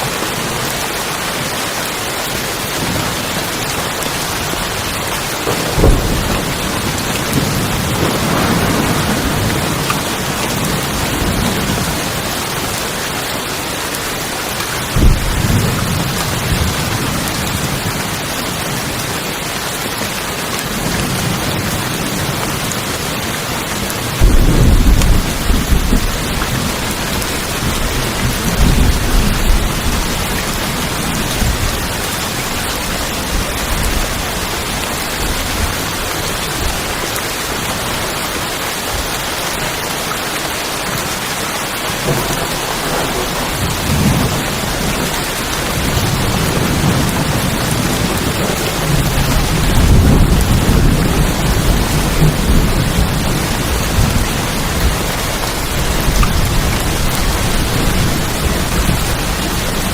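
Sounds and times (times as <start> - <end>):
rain on a tin roof: 0.0 - 59.9
thunder cracking and rumbling: 2.6 - 13.2, 14.5 - 19.2, 20.6 - 37.2, 41.9 - 59.9.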